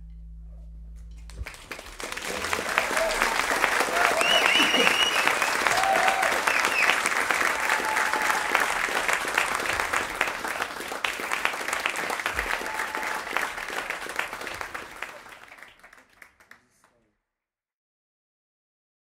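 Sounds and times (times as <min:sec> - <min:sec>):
audience applauding: 0:01.3 - 0:17.0.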